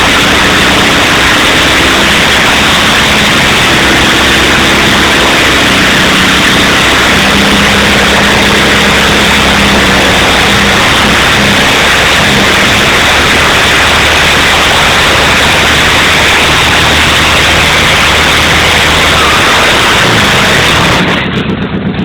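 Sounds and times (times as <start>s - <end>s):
distorted lawnmower engine roaring: 0.0s - 22.0s.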